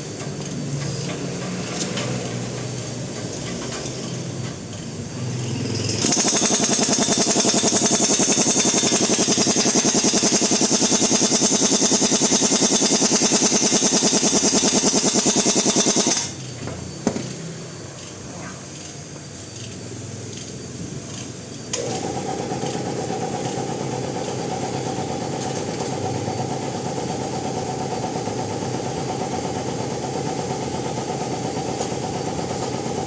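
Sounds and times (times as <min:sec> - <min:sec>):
pneumatic tool hammering: 0:00.1 - 0:18.2, 0:18.8 - 0:33.0.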